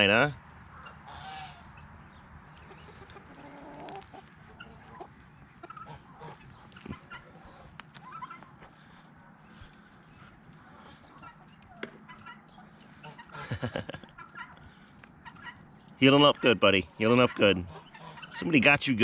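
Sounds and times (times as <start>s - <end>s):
chickens clucking: 0.0s - 18.8s.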